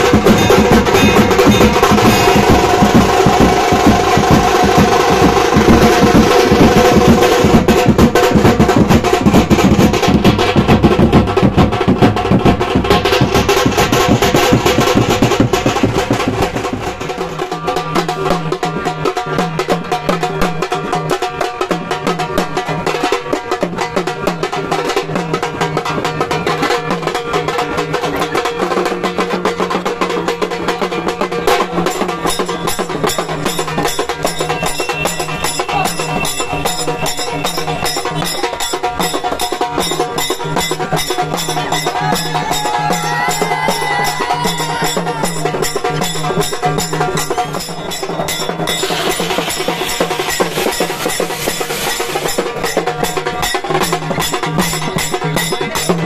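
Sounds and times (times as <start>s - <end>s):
fast dense drumming: 0.0s - 56.0s.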